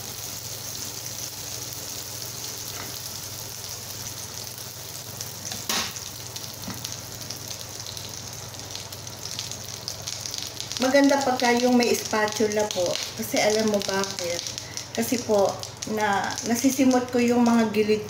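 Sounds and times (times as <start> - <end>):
butter sizzling in frying pan: 0.0 - 18.0.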